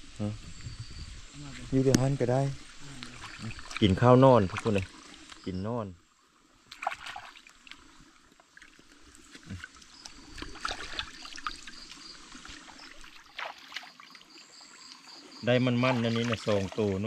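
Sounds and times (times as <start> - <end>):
faint trickling water: 0.2 - 17.0.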